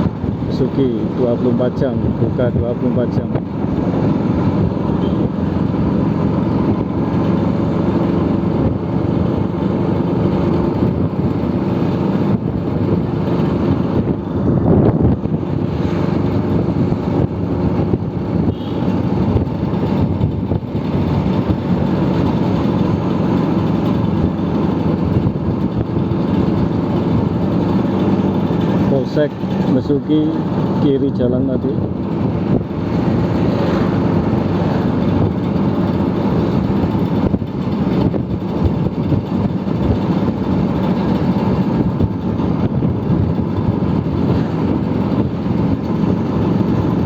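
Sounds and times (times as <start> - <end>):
road and wind noise: 0.0 - 47.0
scooter engine running: 3.5 - 47.0.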